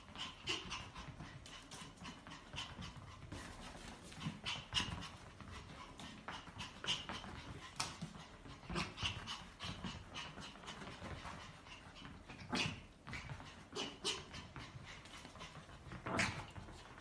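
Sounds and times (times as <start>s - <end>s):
dog breathing sounds: 0.0s - 17.0s.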